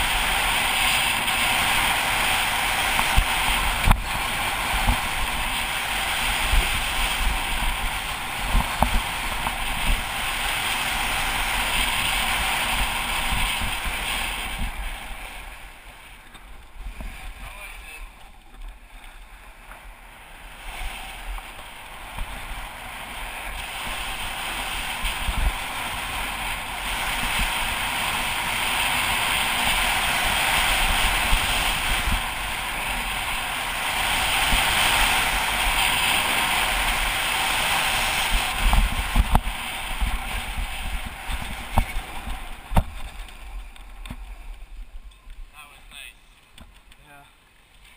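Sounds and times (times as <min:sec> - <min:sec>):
wind on microphone: 0:00.0 - 0:18.2, 0:20.4 - 0:45.5
skis scraping over snow: 0:00.0 - 0:47.9.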